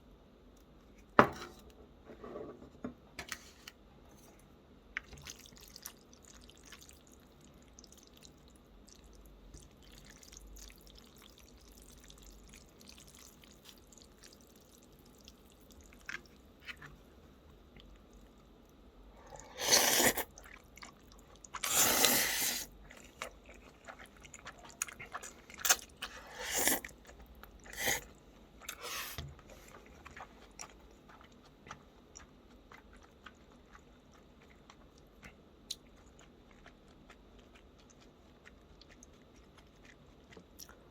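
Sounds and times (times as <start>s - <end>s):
person chewing food: 5.0s - 40.9s.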